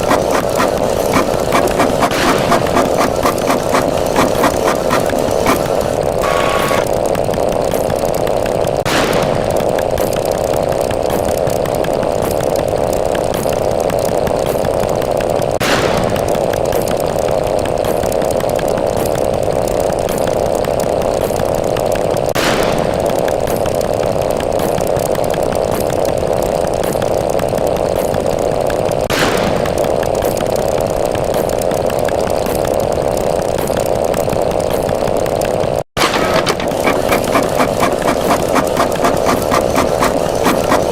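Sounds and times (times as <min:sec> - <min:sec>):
loud buzzing drone: 0:00.0 - 0:40.9.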